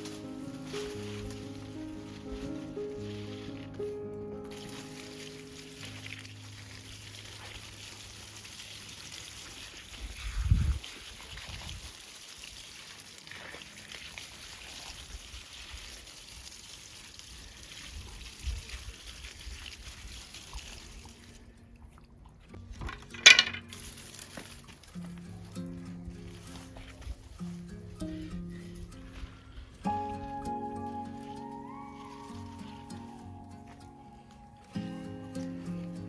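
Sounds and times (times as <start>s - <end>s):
water pouring: 0.0s - 36.0s.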